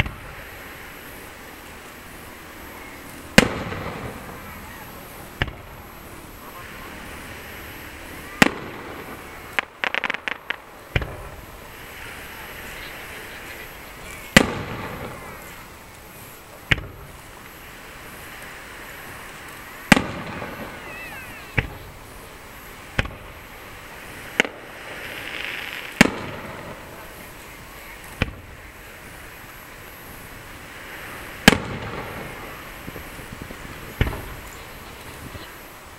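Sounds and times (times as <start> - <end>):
firework shells bursting: 3.1 - 7.6, 8.3 - 12.3, 13.0 - 30.3, 31.3 - 34.6.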